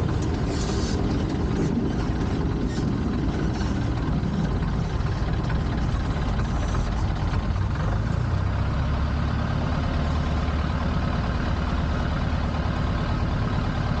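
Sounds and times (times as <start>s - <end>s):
small plane engine humming: 0.0s - 14.0s.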